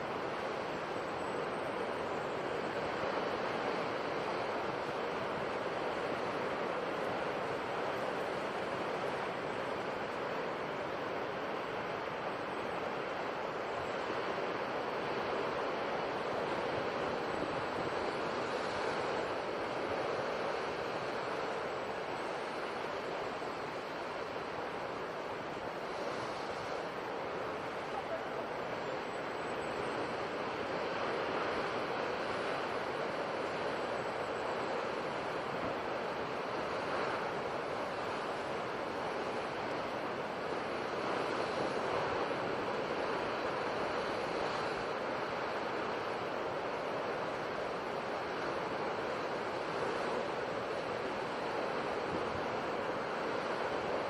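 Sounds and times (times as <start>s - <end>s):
sea surf washing: 0.0s - 54.0s.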